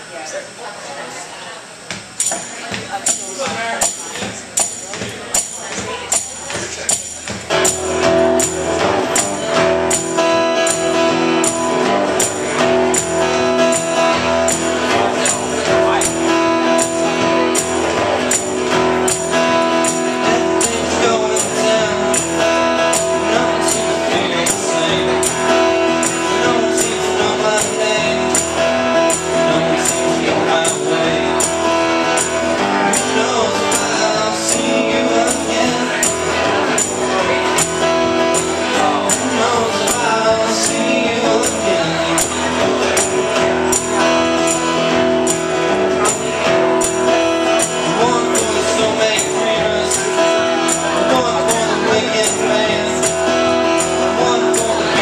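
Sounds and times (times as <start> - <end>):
acoustic guitars strummed: 1.8 - 55.0.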